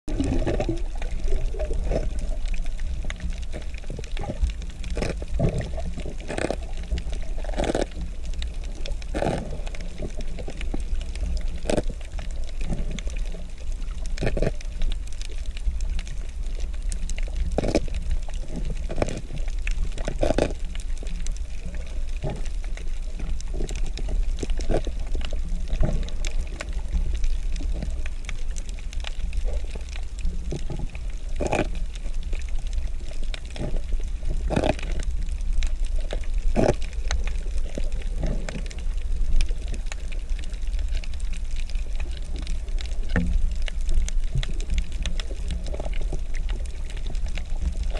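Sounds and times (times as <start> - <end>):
low underwater rumble: 0.0 - 47.9
sharp clicks and crackles: 0.1 - 47.9.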